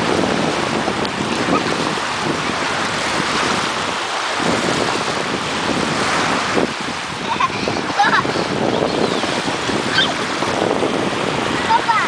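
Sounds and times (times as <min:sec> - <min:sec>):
surf washing onto a beach: 0:00.0 - 0:12.0
wind buffeting the microphone: 0:00.0 - 0:12.0.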